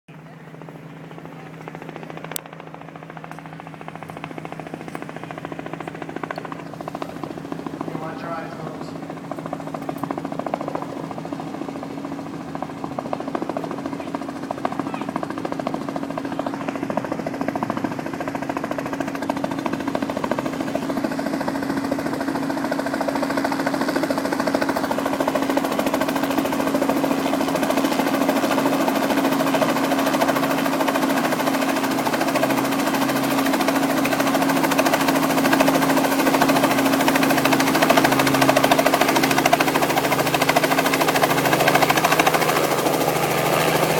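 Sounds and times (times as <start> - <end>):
helicopter rotor and engine: 0.1 - 43.9.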